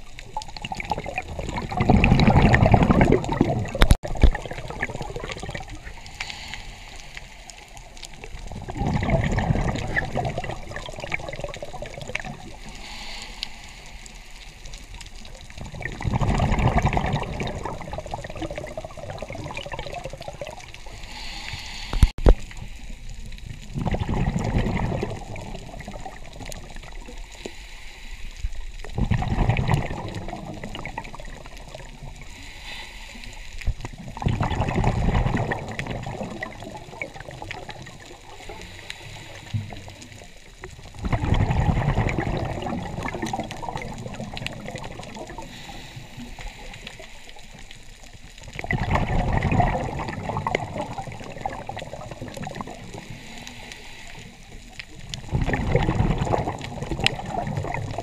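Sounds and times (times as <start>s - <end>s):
underwater regulator bubbles: 0.0s - 27.6s, 28.4s - 58.0s
underwater water noise: 0.0s - 58.0s.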